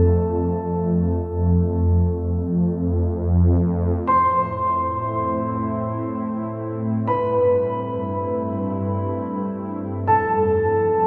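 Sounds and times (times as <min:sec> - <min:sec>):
calm ambient music: 0:00.0 - 0:11.0.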